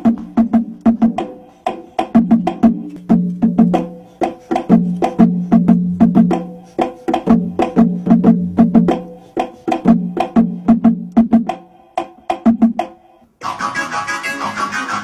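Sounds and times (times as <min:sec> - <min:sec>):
conga drums played by hand: 0:00.0 - 0:13.2.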